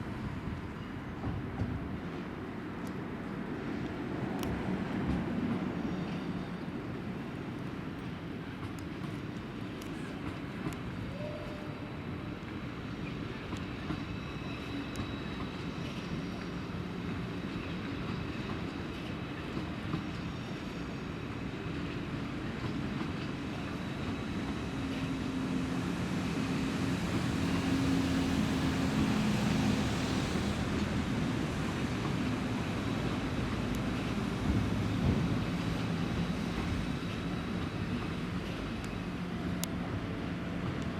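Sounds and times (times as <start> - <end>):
train running hum: 0.0 - 40.9.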